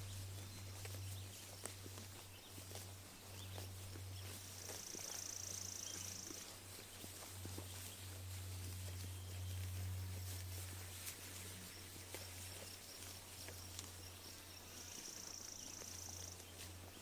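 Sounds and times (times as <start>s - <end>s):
sheep tearing and chewing grass: 0.0s - 17.0s
steady low hum: 0.0s - 17.0s.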